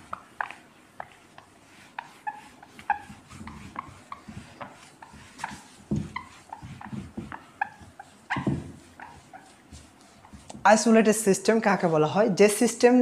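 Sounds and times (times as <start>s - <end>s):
whiteboard eraser squeaking: 0.0s - 11.1s.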